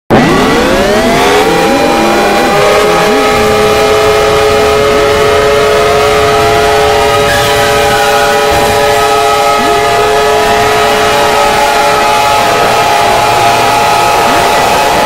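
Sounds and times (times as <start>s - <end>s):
layered overdriven siren tones: 0.1s - 15.0s.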